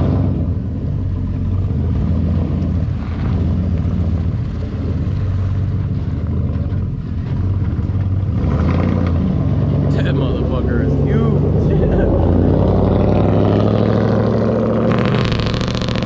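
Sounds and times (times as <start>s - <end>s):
truck engine running at low revs: 0.0s - 16.0s.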